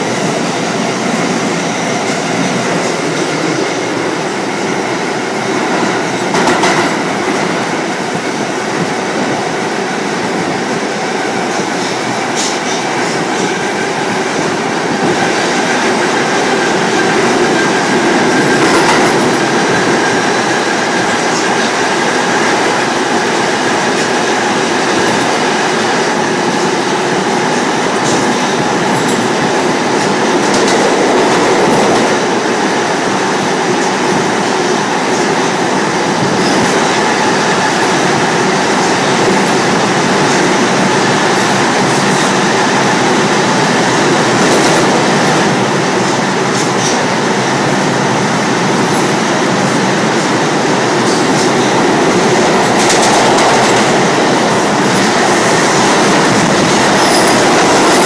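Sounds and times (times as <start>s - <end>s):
subway train wheels rushing on rails: 0.0s - 58.0s.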